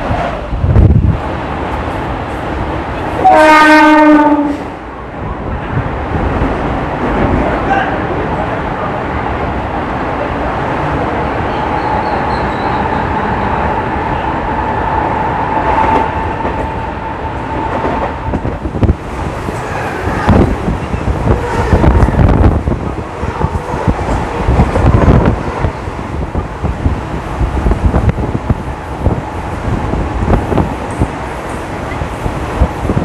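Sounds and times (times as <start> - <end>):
electric train rumble and whine: 0.0 - 33.0.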